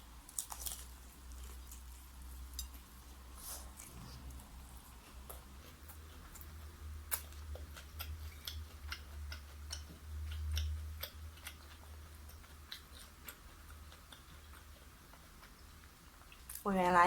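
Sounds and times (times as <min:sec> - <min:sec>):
low steady hum: 0:00.0 - 0:17.0
crunchy chewing: 0:00.2 - 0:16.7.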